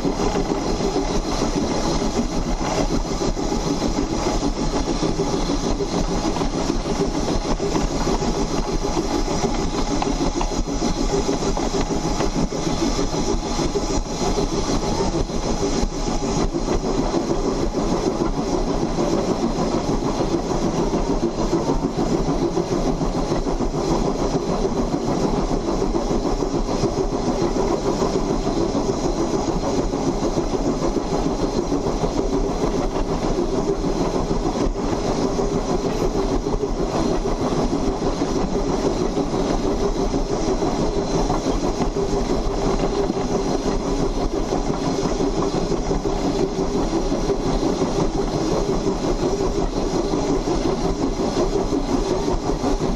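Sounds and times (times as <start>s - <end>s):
steam locomotive running gear din: 0.0s - 52.9s.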